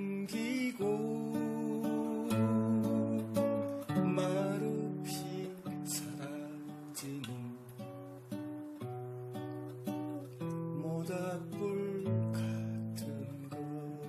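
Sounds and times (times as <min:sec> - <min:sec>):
acoustic guitar strummed and plucked: 0:00.0 - 0:14.0.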